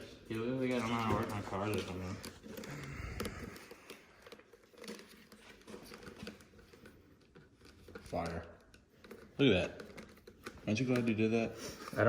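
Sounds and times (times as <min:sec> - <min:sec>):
tape crinkling: 0:00.0 - 0:12.0.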